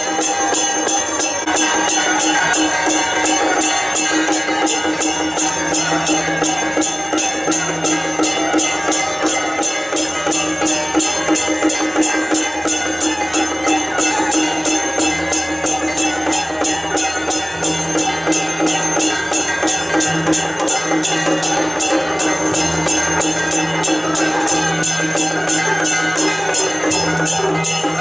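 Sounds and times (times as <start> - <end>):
fast percussion beat: 0.0 - 28.0.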